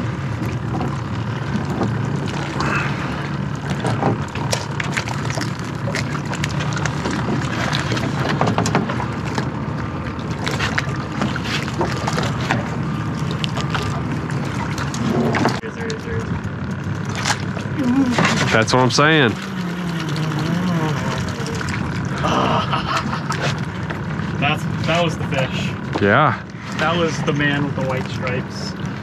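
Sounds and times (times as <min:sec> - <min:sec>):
water lapping against boat hull: 0:00.0 - 0:29.0.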